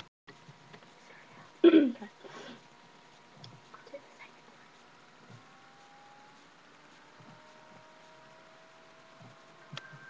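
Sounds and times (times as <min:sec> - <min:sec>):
faint room hiss: 0:00.3 - 0:10.0.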